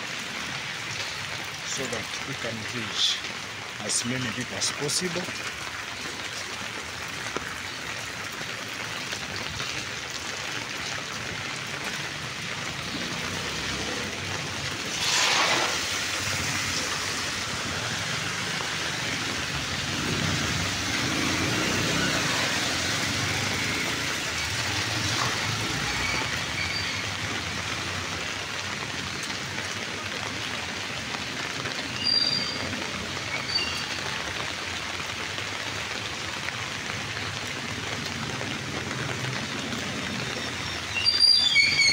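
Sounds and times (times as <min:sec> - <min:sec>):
steady rain: 0:00.0 - 0:41.9
vehicles passing on wet road: 0:00.0 - 0:41.9.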